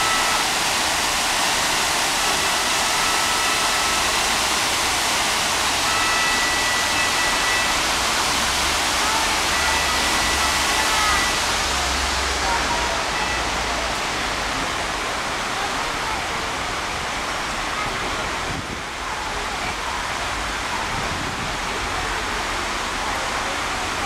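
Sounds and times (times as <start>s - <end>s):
water rushing and splashing: 0.0s - 24.0s.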